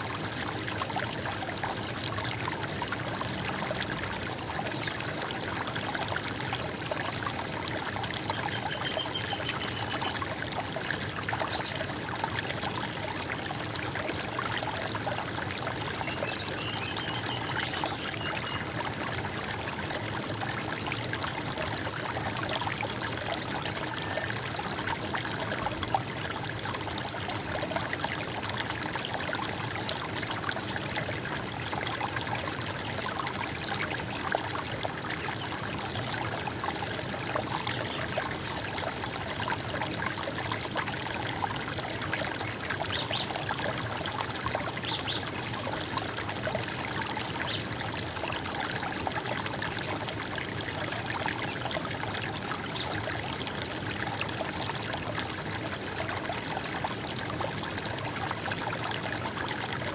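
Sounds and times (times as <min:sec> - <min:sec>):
stream water gurgling: 0:00.0 - 0:59.9.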